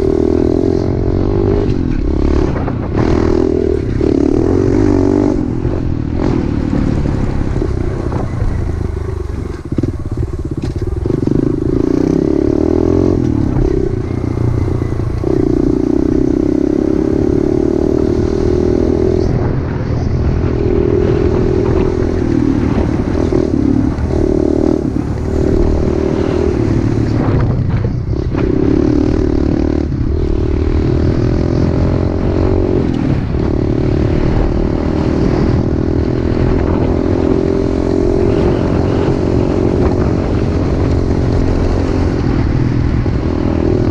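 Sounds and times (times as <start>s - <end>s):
pit bike engine revving: 0.0s - 43.9s.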